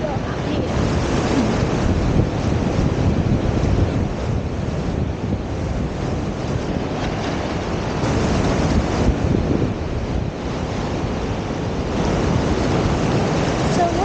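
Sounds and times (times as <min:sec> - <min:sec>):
sea surf washing on beach: 0:00.0 - 0:14.0
wind buffeting microphone: 0:00.0 - 0:14.0.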